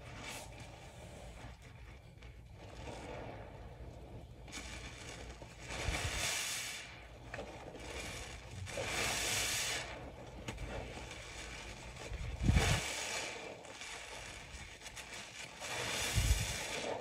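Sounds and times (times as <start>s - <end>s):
sponge squishing in foam: 0.0s - 17.0s.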